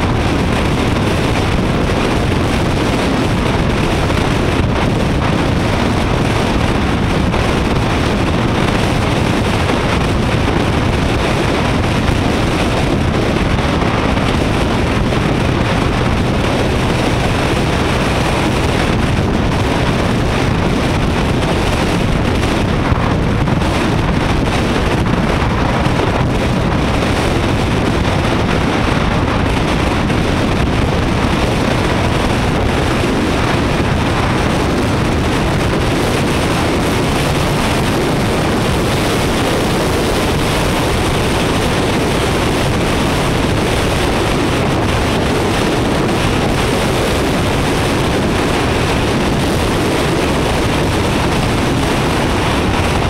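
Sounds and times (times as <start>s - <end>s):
vehicle engine and road noise: 0.0s - 53.0s
wind buffeting microphone: 0.0s - 53.0s.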